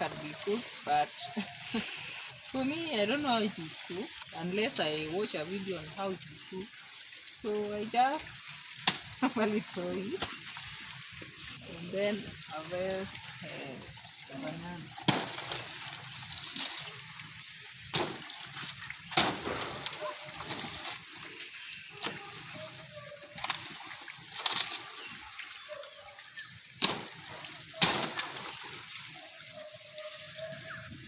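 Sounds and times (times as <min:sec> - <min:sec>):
water and mud splashing: 0:00.0 - 0:31.0.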